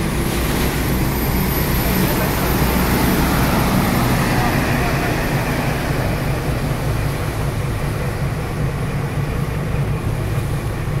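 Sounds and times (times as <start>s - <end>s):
boat engines droning: 0.0s - 11.0s
wake water rushing: 0.0s - 11.0s
wind: 0.0s - 11.0s.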